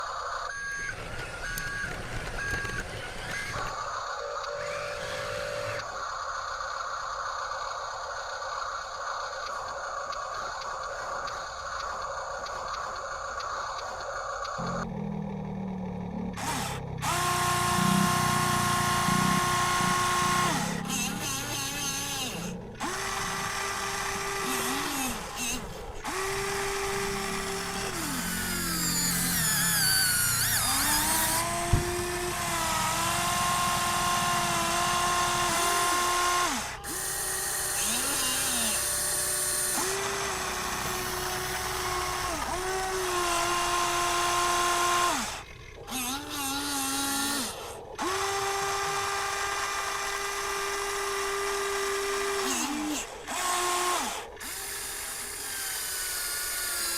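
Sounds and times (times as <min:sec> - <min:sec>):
electric motors and gearboxes whining: 0:00.0 - 0:56.9.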